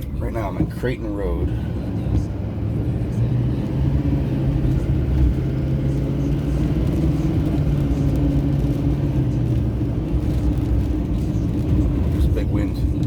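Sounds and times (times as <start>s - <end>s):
car engine and tyres drone: 0.0s - 13.0s.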